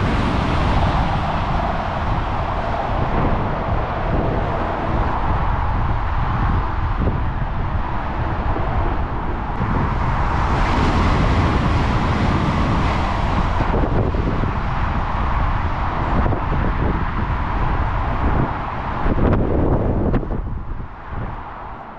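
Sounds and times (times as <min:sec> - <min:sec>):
high-speed train passing: 0:00.0 - 0:21.9
wind buffeting microphone: 0:00.0 - 0:21.9.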